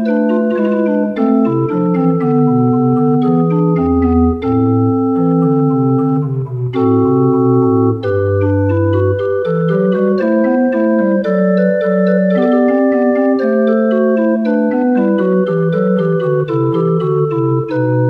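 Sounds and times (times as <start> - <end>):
organ music: 0.0 - 18.0.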